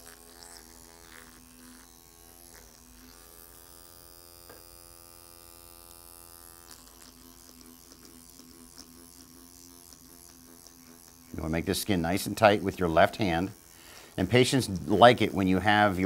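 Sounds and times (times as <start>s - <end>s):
small motor faint buzz: 0.0s - 16.0s.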